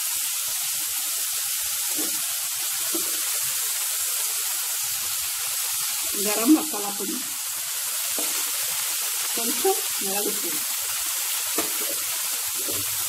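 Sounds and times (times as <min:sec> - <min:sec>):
vegetables sizzling in wok: 0:00.0 - 0:13.0.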